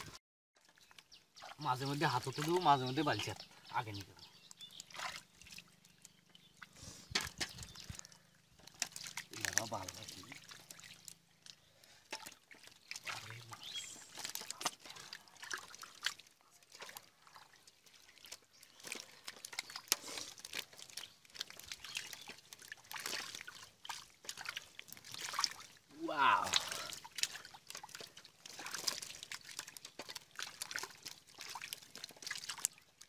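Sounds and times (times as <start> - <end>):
squelches in muddy water: 0.0 - 33.0.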